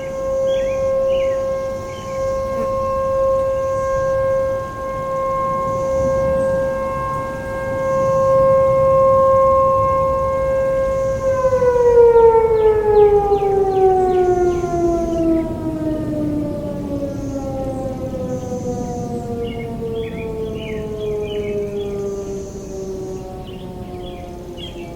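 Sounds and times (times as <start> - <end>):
warning siren steady tone: 0.0 - 24.9.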